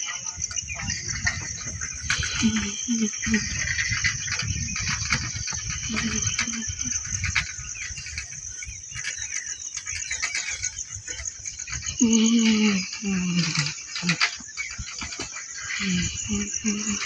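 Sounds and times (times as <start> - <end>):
insects chirring: 0.0 - 17.0
bicycle rumbling and knocking: 0.1 - 17.0.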